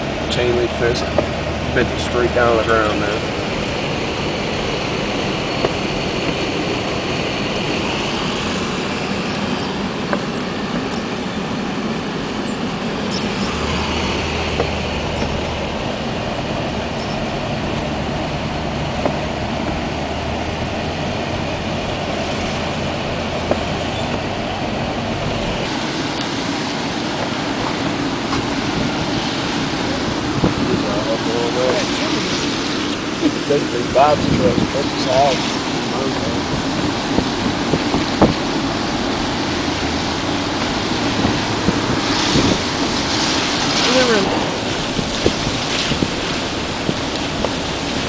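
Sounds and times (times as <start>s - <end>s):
motor vehicle running: 0.0s - 48.0s.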